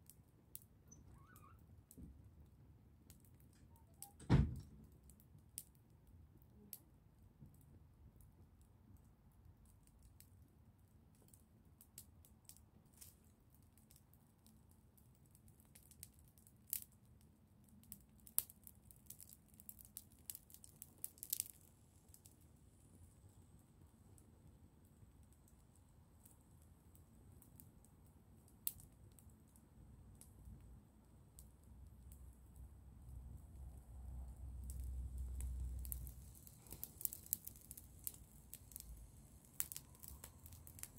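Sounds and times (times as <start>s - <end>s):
sharp snaps of fire: 0.0s - 40.9s
twig fire crackling: 0.0s - 40.9s.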